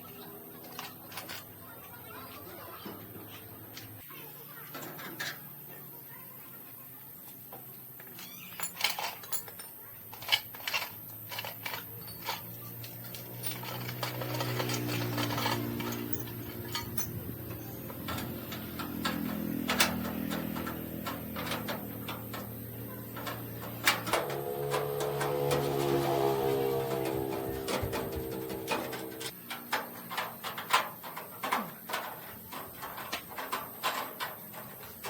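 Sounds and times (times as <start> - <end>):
metal tools clinking and tapping: 0.1 - 3.9, 4.7 - 5.5, 7.5 - 35.0.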